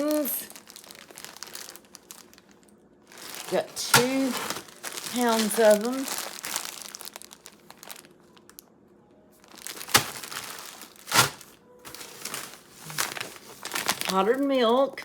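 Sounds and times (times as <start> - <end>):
plastic packaging crinkling: 0.0 - 8.7, 9.4 - 15.0.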